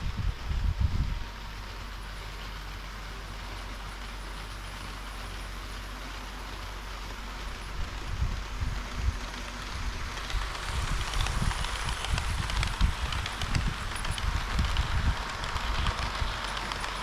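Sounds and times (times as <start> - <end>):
model train rolling on track: 0.0 - 17.0.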